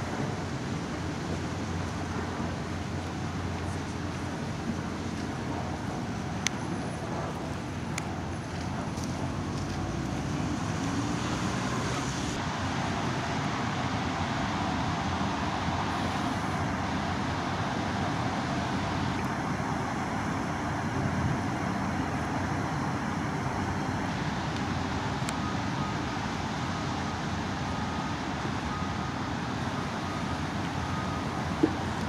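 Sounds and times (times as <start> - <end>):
outdoor background roar: 0.0 - 32.0.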